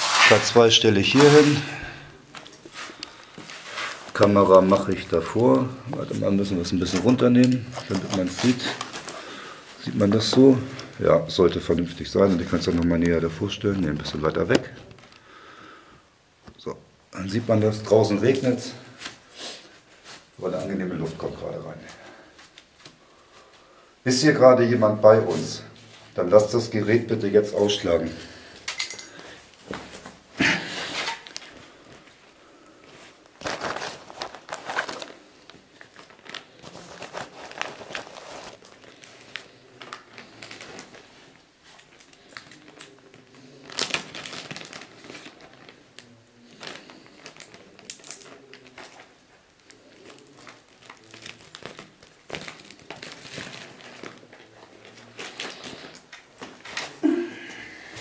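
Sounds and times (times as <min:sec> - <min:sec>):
rustling and crinkling: 0:00.0 - 0:15.2, 0:17.3 - 0:23.7, 0:24.3 - 0:57.0.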